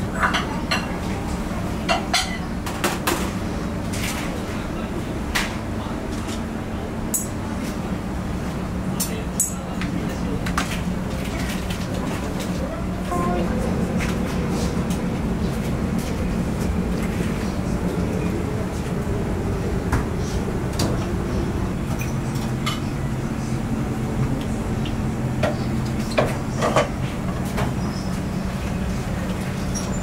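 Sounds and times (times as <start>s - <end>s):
low hum of kitchen equipment: 0.0s - 30.0s.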